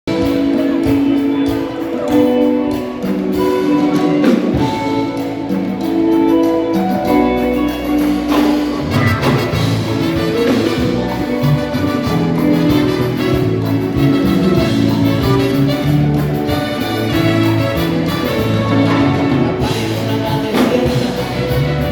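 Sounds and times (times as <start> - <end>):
live band playing instrumental: 0.1 - 21.9.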